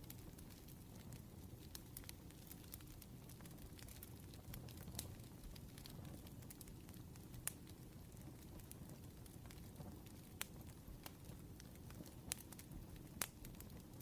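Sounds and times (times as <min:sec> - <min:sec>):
low rumble of burning: 0:00.0 - 0:14.0
sharp pops of fire: 0:00.0 - 0:14.0
wood fire crackling: 0:00.0 - 0:14.0.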